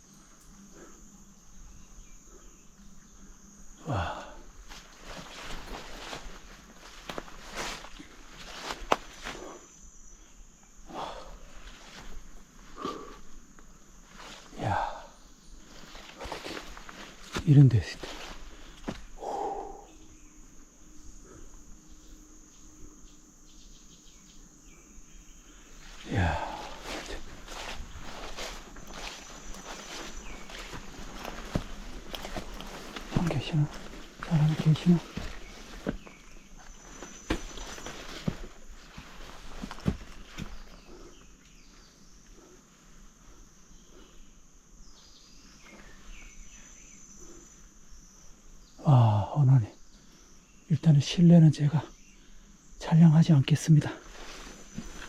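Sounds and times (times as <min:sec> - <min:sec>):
crickets chirring: 0:00.0 - 0:55.0
insects trilling: 0:00.0 - 0:55.0.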